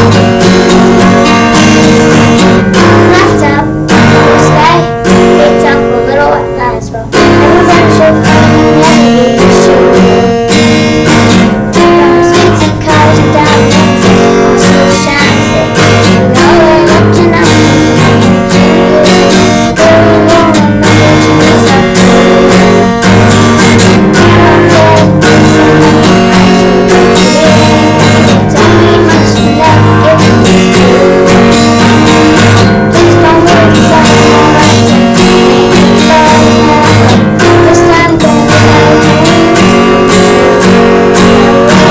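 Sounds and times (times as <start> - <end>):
acoustic guitar strumming: 0.0 - 41.9
girl singing: 0.0 - 41.9.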